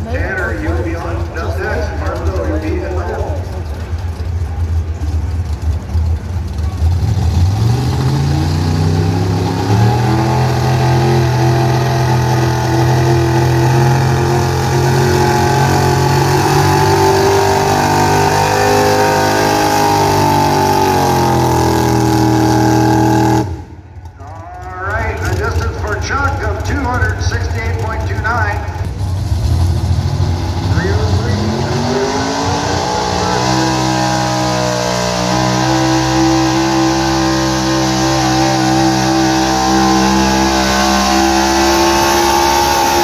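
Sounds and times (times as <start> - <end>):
pickup truck engine revving: 0.0 - 43.0.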